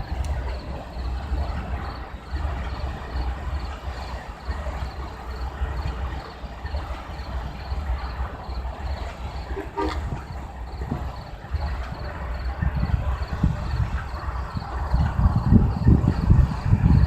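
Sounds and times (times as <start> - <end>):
cricket chirping: 0.0 - 17.0
train engine rumbling: 0.0 - 17.0.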